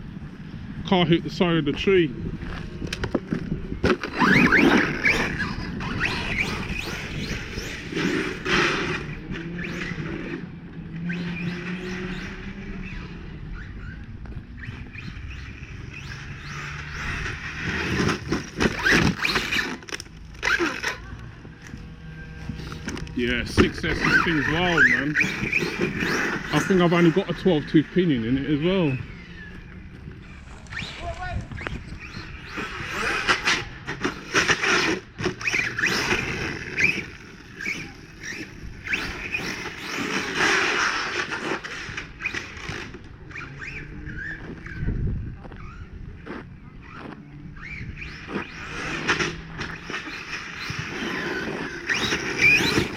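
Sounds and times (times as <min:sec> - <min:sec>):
electric motor whining: 0:02.2 - 0:52.9.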